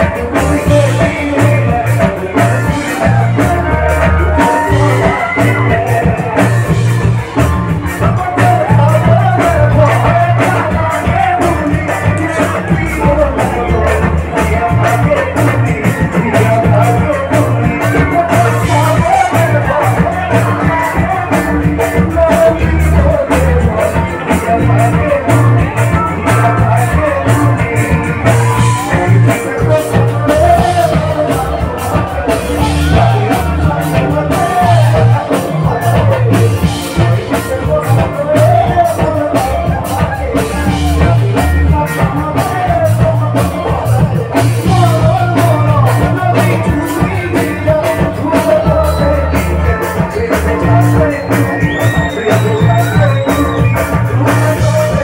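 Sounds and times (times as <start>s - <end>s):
bass guitar: 0.0s - 55.0s
drums: 0.0s - 55.0s
keyboard: 0.0s - 55.0s
person singing: 0.0s - 55.0s.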